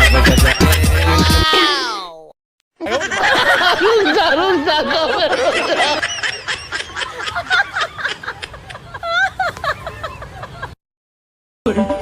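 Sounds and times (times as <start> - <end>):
people laughing and giggling: 0.0 - 1.8, 2.8 - 10.8.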